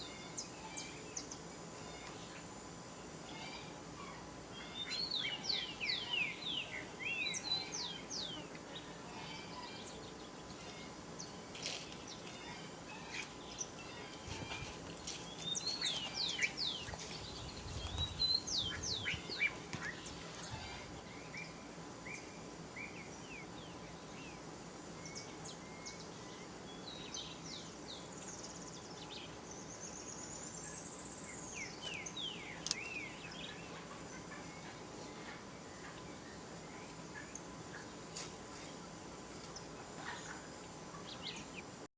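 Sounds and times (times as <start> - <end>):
birds chirping and calling: 0.0 - 24.4, 25.0 - 41.8
background hiss: 0.0 - 41.9.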